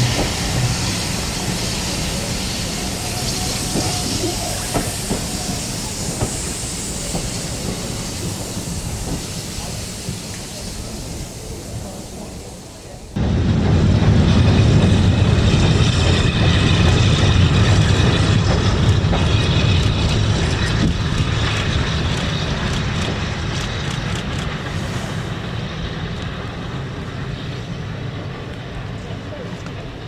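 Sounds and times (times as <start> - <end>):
steam train rumbling past: 0.0 - 30.0.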